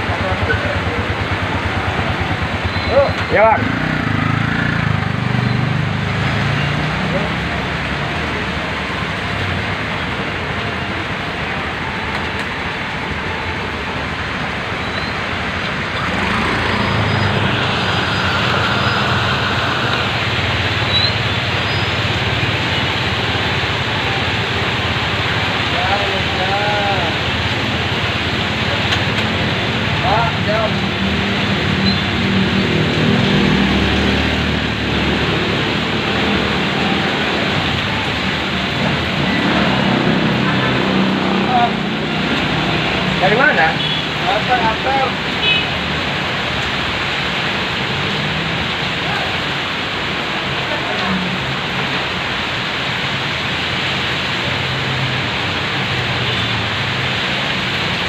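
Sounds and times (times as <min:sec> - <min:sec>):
heavy rain: 0:00.0 - 0:58.0
vehicle running: 0:00.0 - 0:58.0.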